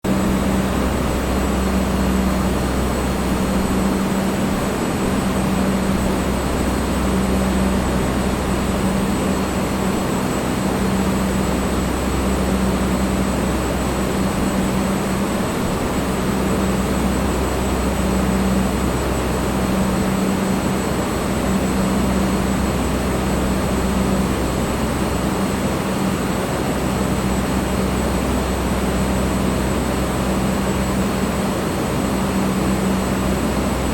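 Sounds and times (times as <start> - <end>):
fan air rushing: 0.0 - 33.9
low motor hum: 0.0 - 33.9.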